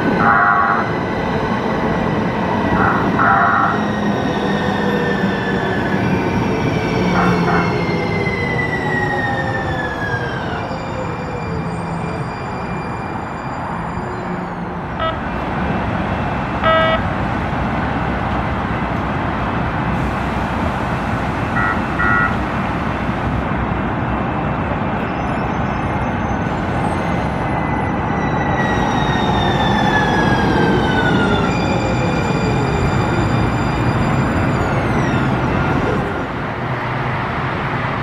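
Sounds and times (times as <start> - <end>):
train rumble and rail noise: 0.0 - 38.0.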